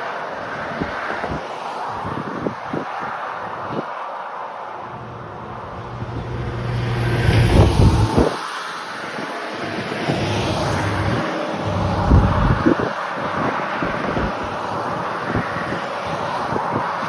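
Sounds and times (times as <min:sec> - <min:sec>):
road and vehicle noise: 0:00.0 - 0:17.0
wind buffeting microphone: 0:00.4 - 0:03.9, 0:04.8 - 0:17.0.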